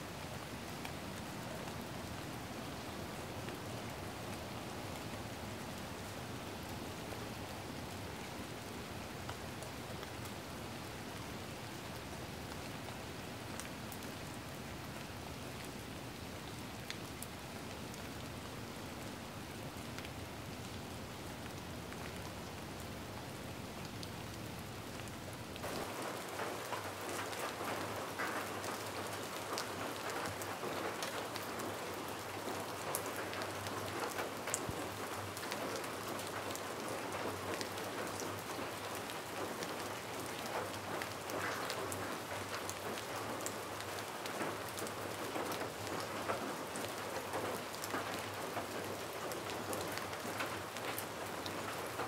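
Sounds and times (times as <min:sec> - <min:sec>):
rain-like patter hiss: 0:00.0 - 0:52.0.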